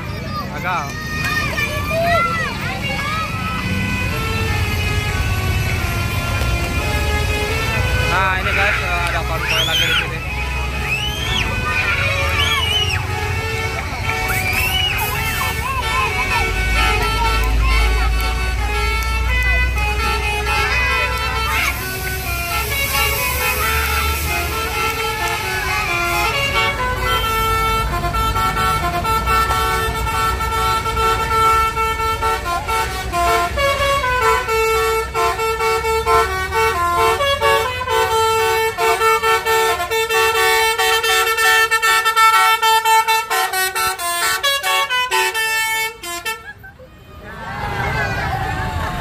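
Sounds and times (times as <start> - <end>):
bus multi-tone air horn tune: 2.6 - 47.2.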